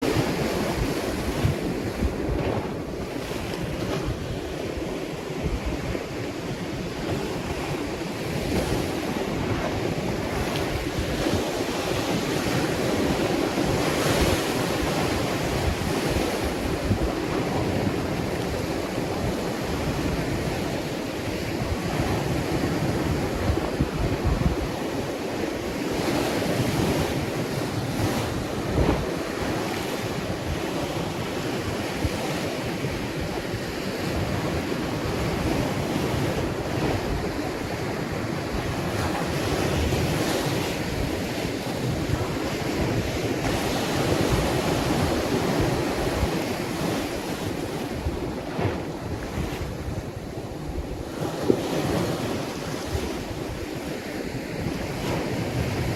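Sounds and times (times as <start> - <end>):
ocean waves on shore: 0.0 - 55.9
wind buffeting microphone: 0.0 - 55.9.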